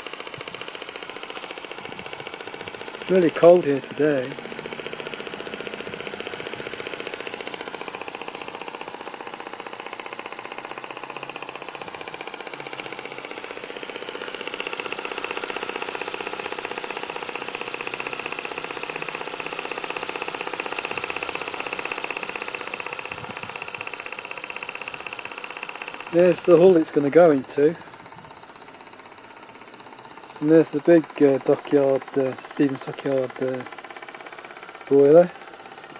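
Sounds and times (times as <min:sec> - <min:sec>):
small steam engine running fast: 0:00.0 - 0:35.9.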